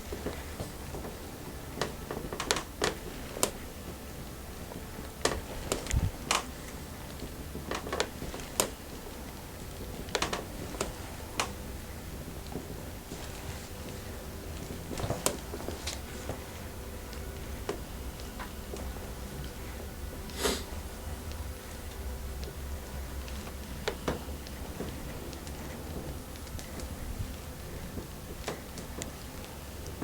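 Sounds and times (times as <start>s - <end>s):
low steady background noise: 0.0s - 30.0s.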